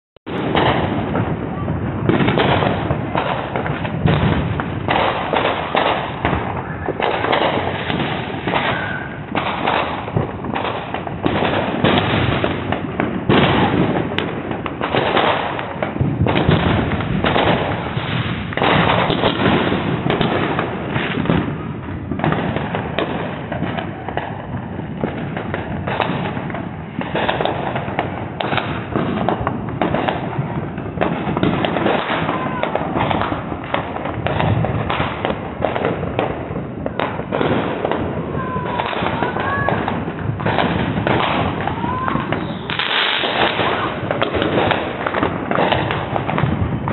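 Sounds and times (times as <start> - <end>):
fireworks bangs and pops: 0.2 - 46.9.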